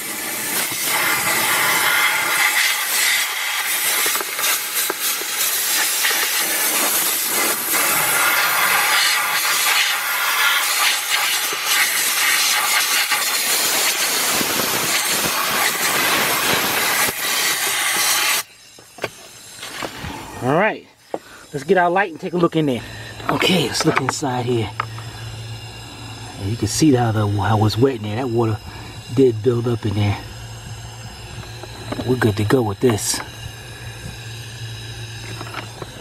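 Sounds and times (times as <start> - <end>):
compressed air blow gun hissing: 0.0 - 36.0.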